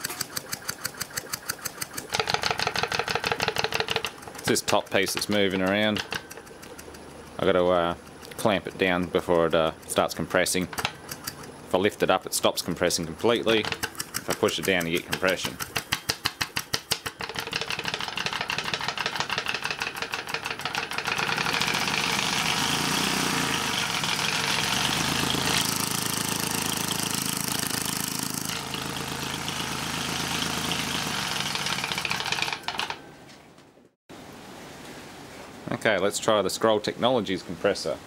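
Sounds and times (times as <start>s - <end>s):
compressor chattering: 0.0s - 33.0s.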